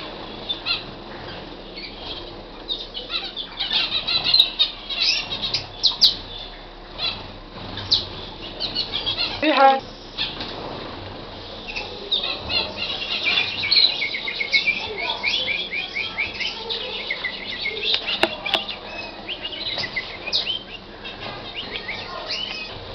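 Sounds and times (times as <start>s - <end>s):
canary singing trills: 0.0s - 10.5s, 11.4s - 22.9s.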